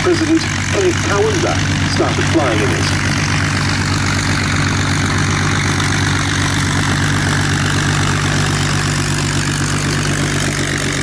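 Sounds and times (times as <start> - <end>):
piston aircraft engines running: 0.0 - 11.0.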